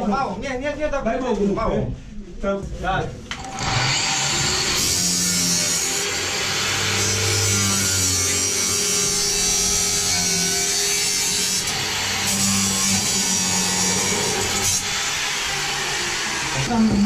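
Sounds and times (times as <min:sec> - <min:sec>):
angle grinder cutting metal: 0:03.3 - 0:17.0.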